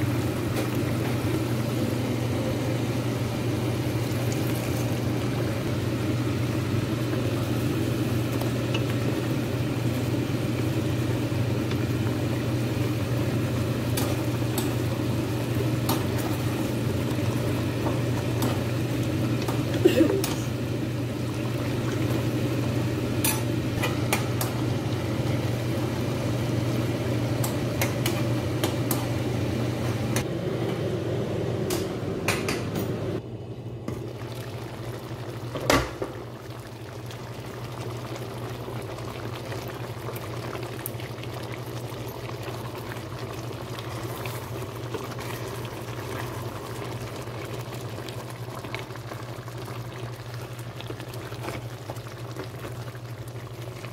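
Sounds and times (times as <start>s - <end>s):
stew simmering and bubbling: 0.0s - 53.9s.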